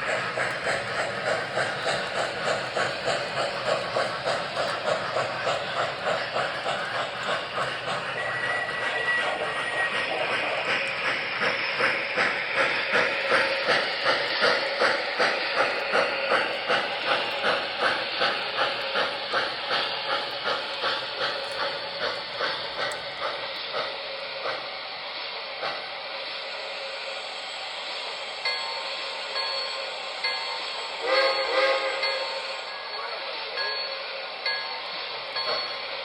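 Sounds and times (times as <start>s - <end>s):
model steam locomotive chuffing: 0.0s - 36.0s
steam hiss: 0.0s - 36.0s.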